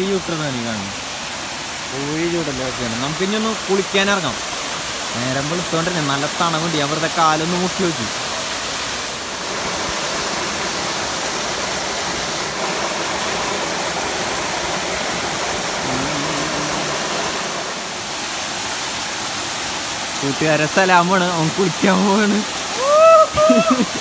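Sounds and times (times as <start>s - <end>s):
waterfall pouring into pool: 0.0s - 24.0s.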